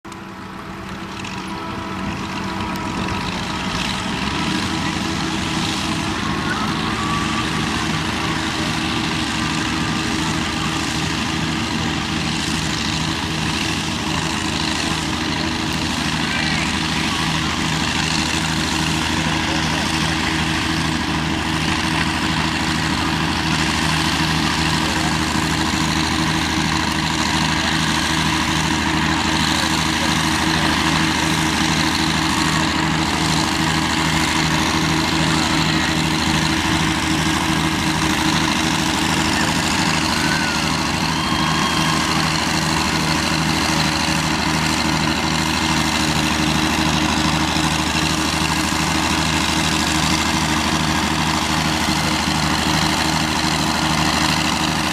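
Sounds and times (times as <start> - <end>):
tractor engine running steadily: 0.0 - 54.9.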